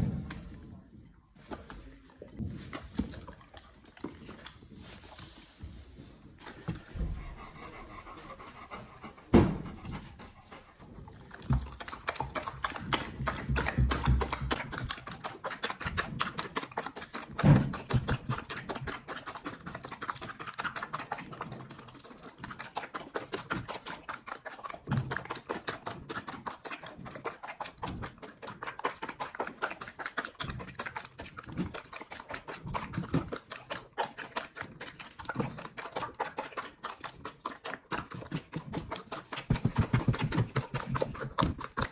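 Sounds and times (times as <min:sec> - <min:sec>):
dog eating from a bowl: 0:00.0 - 0:41.9.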